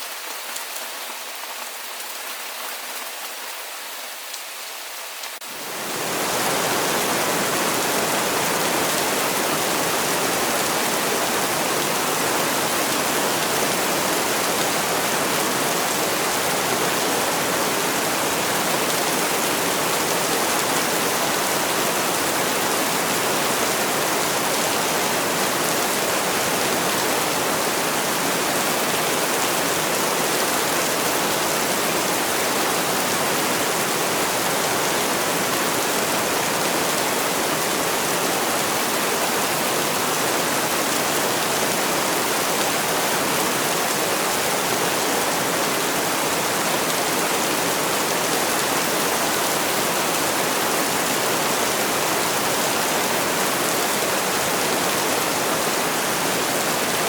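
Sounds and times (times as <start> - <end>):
heavy rain rushing: 5.4 - 57.0.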